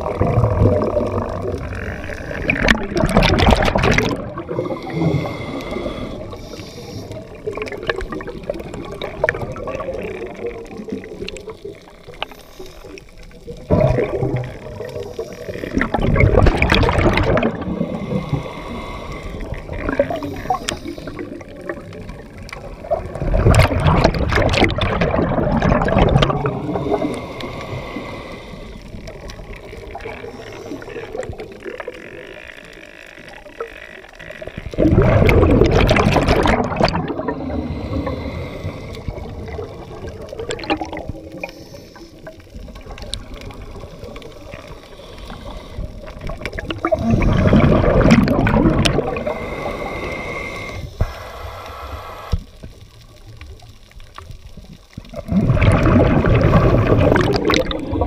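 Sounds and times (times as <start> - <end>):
steady watery hiss: 0.0 - 3.3, 4.0 - 23.8, 25.6 - 35.8, 36.4 - 58.0
bubbles gurgling underwater: 0.0 - 6.4, 7.1 - 28.1, 28.9 - 32.2, 34.5 - 50.1, 52.4 - 58.0.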